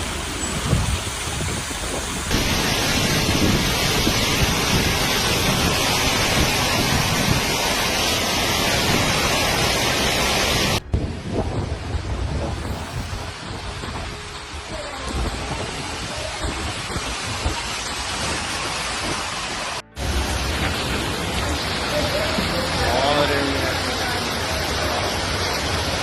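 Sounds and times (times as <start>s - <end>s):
heavy rain: 0.0s - 26.0s
running floodwater: 0.0s - 26.0s.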